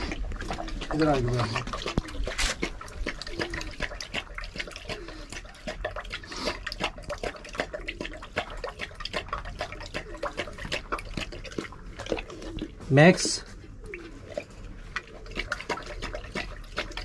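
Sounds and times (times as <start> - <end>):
dog lapping and slurping: 0.0 - 17.0.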